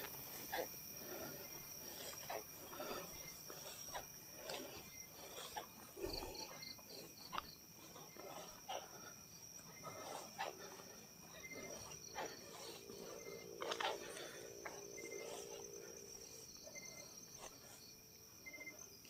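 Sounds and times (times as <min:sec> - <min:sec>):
night insects trilling: 0:00.0 - 0:19.0
quick cricket chirps: 0:00.0 - 0:19.0.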